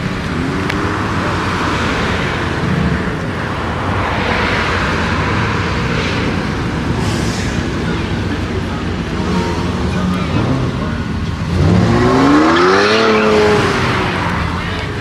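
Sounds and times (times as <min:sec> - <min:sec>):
car engines rumbling: 0:00.0 - 0:15.0
tyre and traffic noise: 0:00.0 - 0:15.0.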